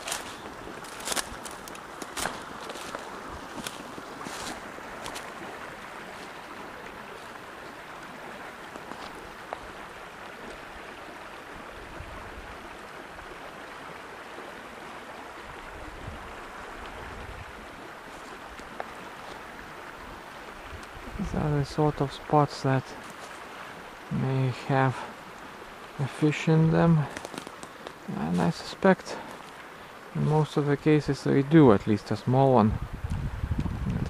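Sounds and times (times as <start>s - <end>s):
stream babbling over stones: 0.0s - 34.0s.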